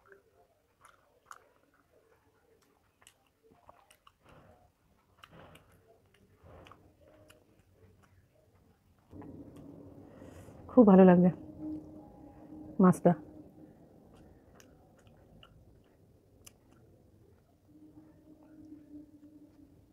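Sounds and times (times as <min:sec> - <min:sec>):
person chewing food: 0:00.0 - 0:10.4, 0:13.4 - 0:19.9.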